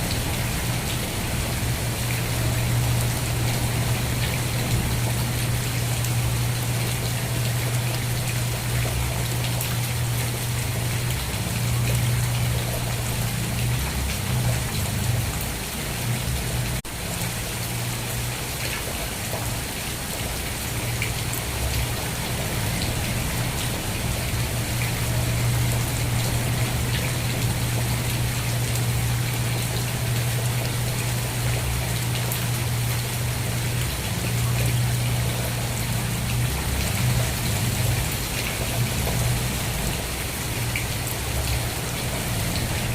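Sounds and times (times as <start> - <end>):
rain pattering on a surface: 0.0 - 42.9.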